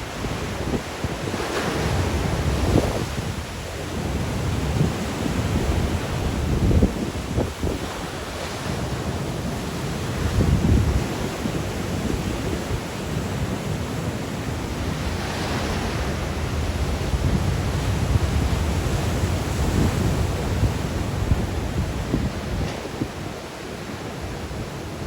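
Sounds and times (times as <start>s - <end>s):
sea waves breaking: 0.0s - 25.0s
wind buffeting microphone: 0.0s - 25.0s.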